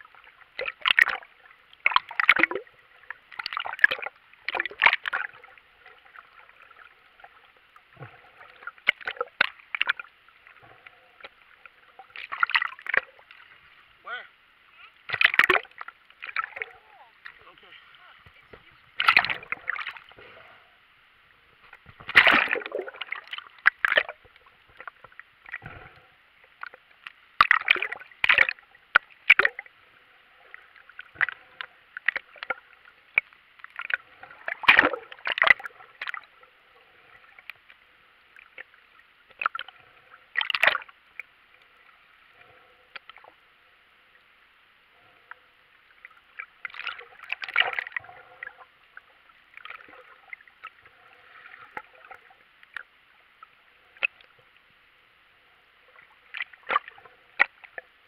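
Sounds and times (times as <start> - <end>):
water splashing and gurgling: 0.0 - 43.5, 44.3 - 58.0
steady muffled hiss: 0.0 - 58.0.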